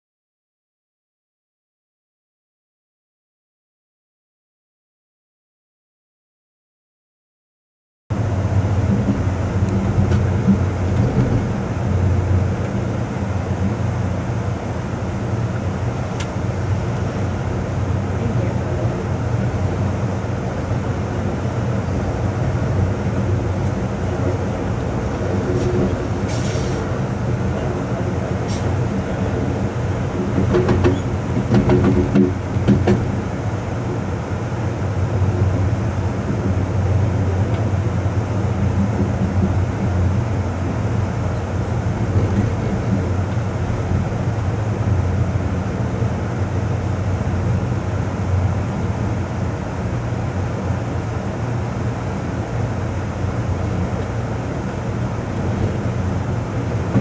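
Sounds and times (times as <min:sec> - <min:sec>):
train wheels rumbling on rails: 0:08.1 - 0:57.0.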